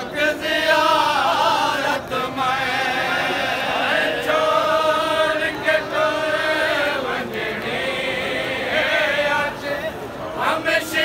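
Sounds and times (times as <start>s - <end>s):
men chanting a lament: 0.0s - 11.0s.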